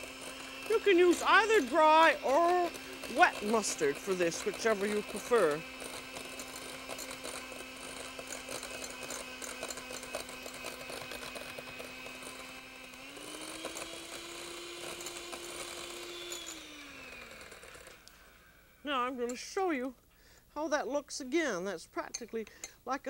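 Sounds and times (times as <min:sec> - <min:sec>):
electric hand mixer humming: 0:00.0 - 0:19.4.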